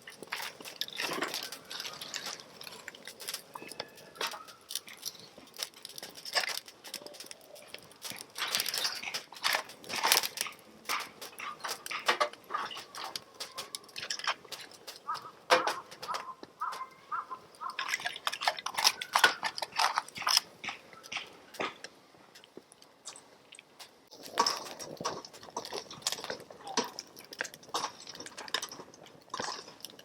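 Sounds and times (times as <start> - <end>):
firewood crackling and popping: 0.0 - 30.0.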